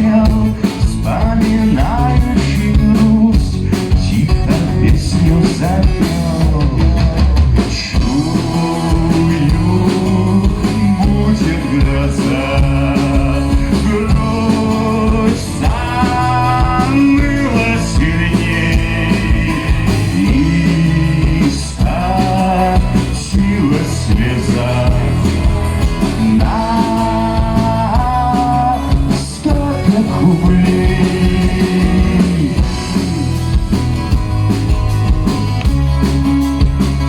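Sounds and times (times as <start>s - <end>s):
acoustic rock band playing: 0.0s - 37.0s.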